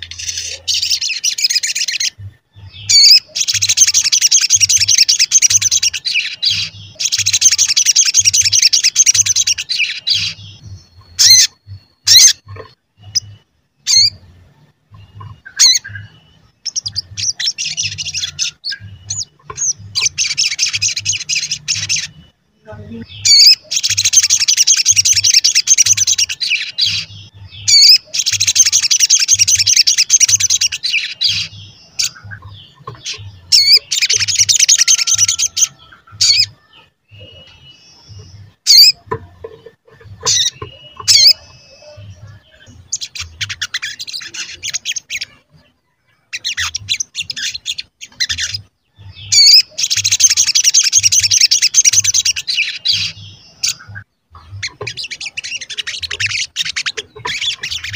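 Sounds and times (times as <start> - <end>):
sharp high bird calls: 0.0 - 14.3, 15.0 - 45.6, 46.2 - 57.9
bird twittering song: 0.0 - 57.9
scattered bird chirps: 0.0 - 57.9.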